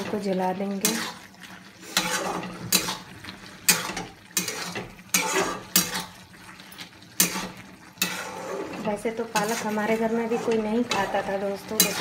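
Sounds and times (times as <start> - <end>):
faint sizzle: 0.0 - 12.0
metal spatula scraping a steel pan: 0.8 - 6.2, 7.2 - 12.0.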